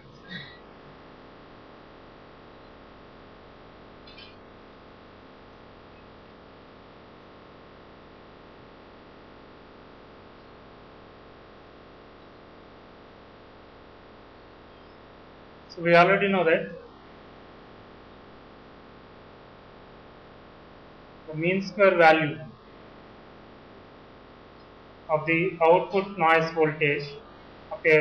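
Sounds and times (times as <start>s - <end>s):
microphone hiss: 0.0s - 28.0s.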